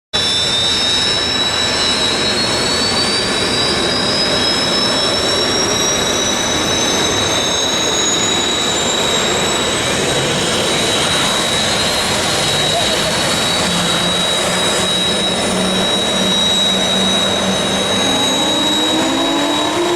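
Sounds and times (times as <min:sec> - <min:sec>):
jet engine starting with whine: 0:00.2 - 0:19.9.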